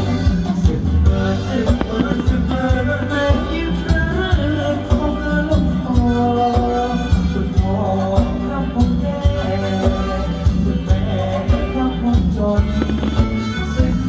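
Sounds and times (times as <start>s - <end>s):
live dance band through pa: 0.0s - 14.0s
steady drum beat: 0.0s - 14.0s.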